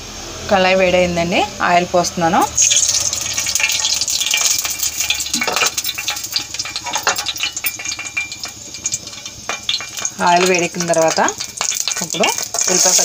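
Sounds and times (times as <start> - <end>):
oil sizzling and crackling: 2.3 - 13.0.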